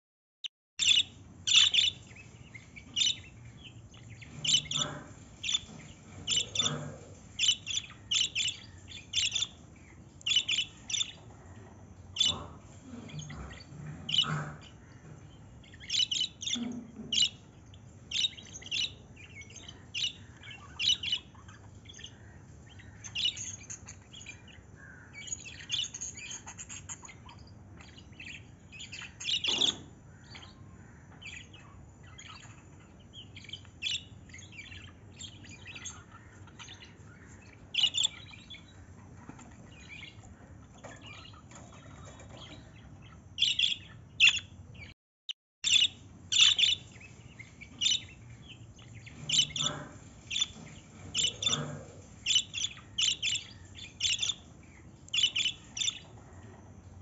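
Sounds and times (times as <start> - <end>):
budgerigars chirping: 0.8 - 11.4, 12.1 - 30.6, 31.2 - 38.9, 41.0 - 44.9, 45.6 - 56.2.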